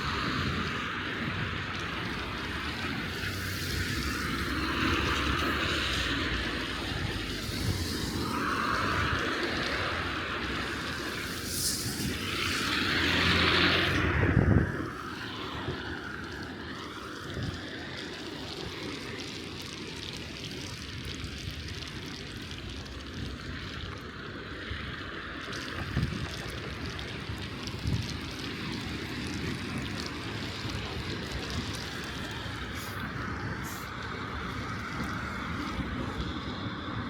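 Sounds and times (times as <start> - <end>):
bicycle rolling on snow: 0.0 - 37.0
wind: 0.0 - 37.0.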